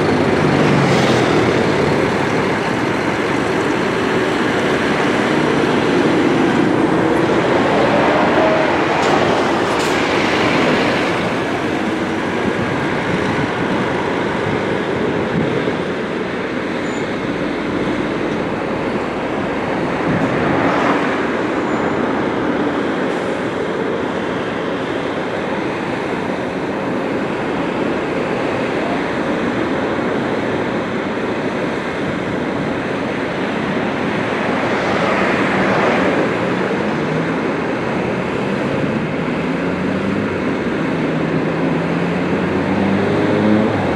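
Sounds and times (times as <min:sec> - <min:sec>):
bus engine rumbling: 0:00.0 - 0:43.9.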